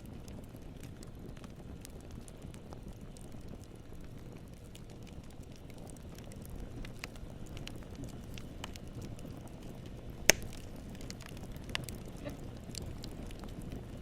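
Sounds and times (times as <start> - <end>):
burning wood crackling and popping: 0.0 - 14.0
campfire rumble: 0.0 - 14.0.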